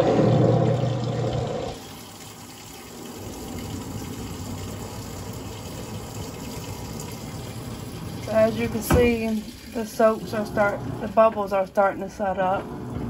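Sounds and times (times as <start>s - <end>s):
water pouring into washer tub: 0.0s - 11.9s
washing machine low hum: 0.0s - 13.0s.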